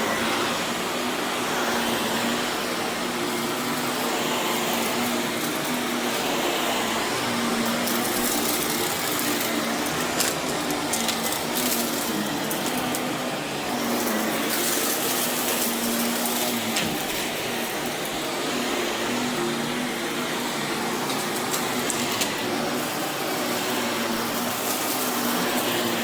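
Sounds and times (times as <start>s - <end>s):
vacuum cleaner on carpet: 0.0s - 26.0s
grit crackling in vacuum: 1.6s - 26.0s.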